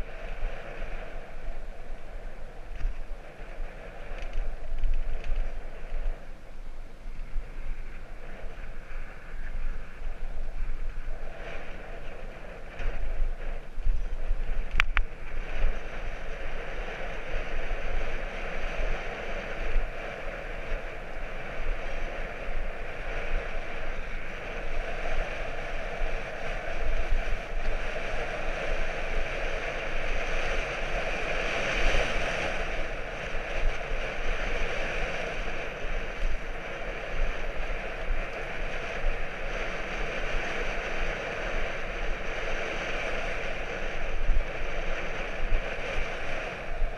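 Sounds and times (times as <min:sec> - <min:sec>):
bicycle tyres rolling on road: 0:00.0 - 0:46.9
wind buffeting microphone: 0:00.0 - 0:46.9.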